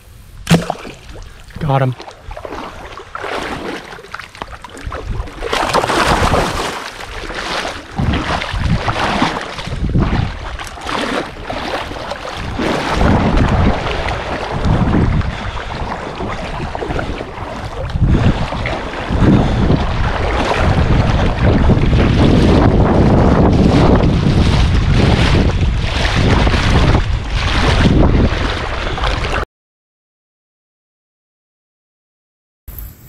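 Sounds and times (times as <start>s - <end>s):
person wading through water: 0.5s - 29.4s
wind buffeting microphone: 1.0s - 29.4s.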